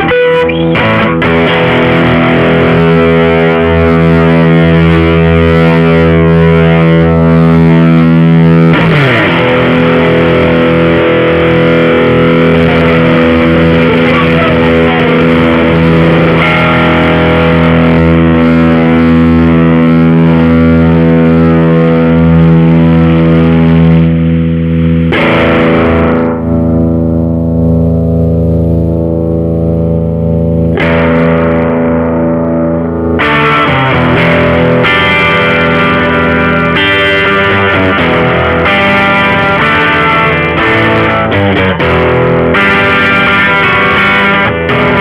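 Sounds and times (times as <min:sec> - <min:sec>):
overdriven electric guitar chords: 0:00.0 - 0:45.0.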